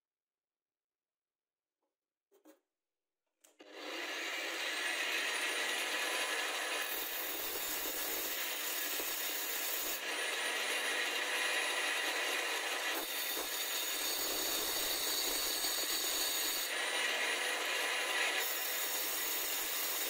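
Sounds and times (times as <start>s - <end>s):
angle grinder grinding drill bit: 3.6s - 20.0s
grinder spinning free: 3.6s - 20.0s.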